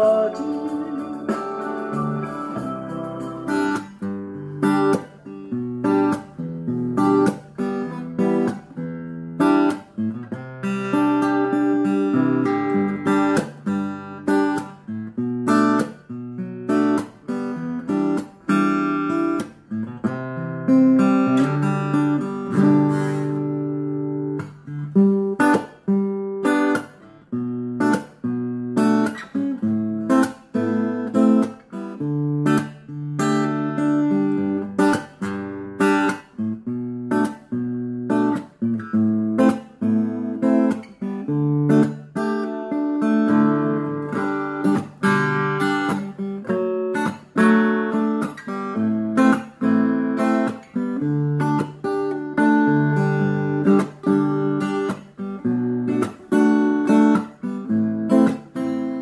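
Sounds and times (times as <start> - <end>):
acoustic guitar through amplifier: 0.0 - 59.0.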